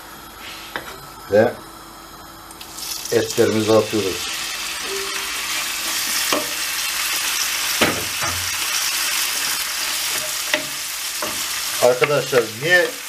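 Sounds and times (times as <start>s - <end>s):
beef sizzling in hot oil: 2.2s - 13.0s.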